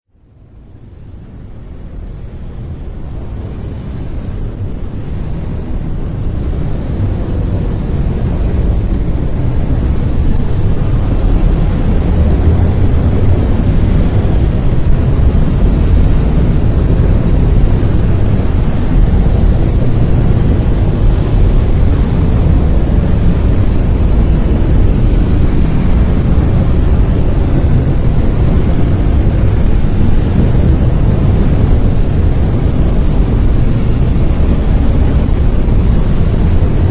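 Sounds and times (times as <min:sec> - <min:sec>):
deep rumbling brown noise: 0:00.1 - 0:36.9.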